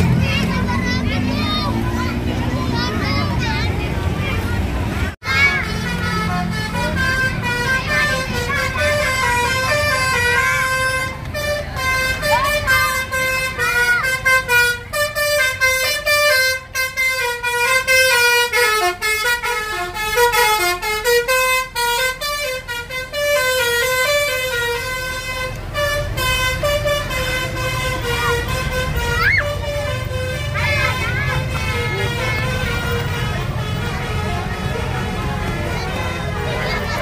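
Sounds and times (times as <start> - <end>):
bus horn playing melody: 5.2 - 37.0.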